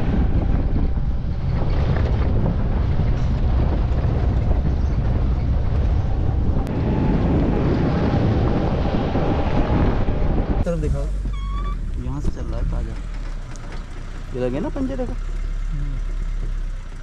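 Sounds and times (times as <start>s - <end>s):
wind buffeting microphone: 0.0s - 15.1s
vehicle running: 0.0s - 17.0s.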